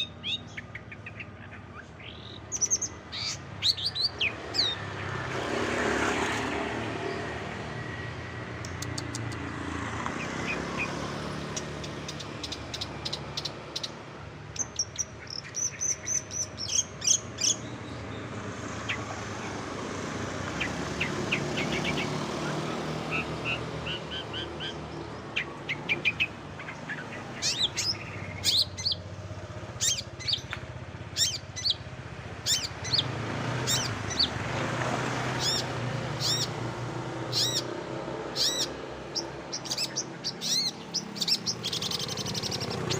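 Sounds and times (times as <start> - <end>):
songbird chirping and trilling: 0.0 - 42.9.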